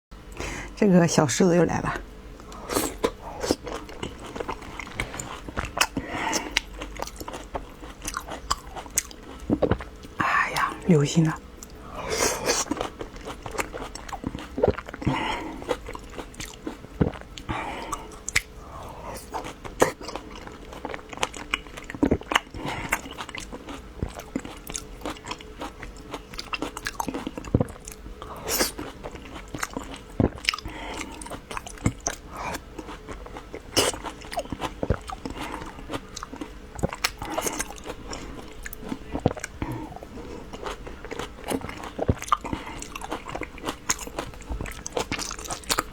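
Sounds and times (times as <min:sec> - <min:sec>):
wet chewing and smacking: 0:02.4 - 0:45.9.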